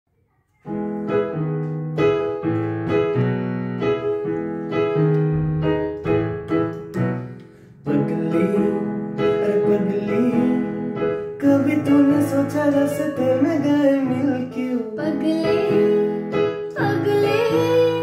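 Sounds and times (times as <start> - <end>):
piano chords on keyboard: 0.6 - 18.0.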